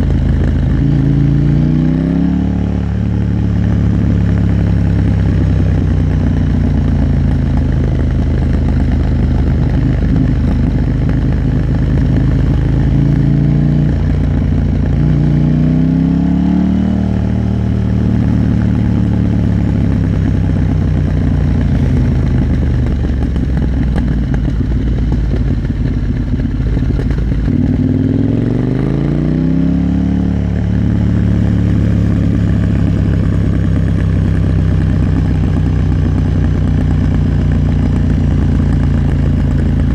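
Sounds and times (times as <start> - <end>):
motorbike engine accelerating: 0.0 - 39.9.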